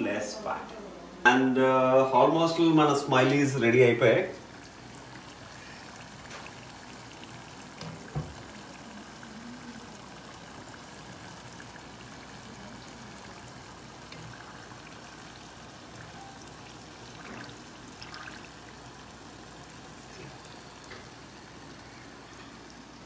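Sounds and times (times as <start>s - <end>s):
fries sizzling in hot oil: 1.9s - 23.0s.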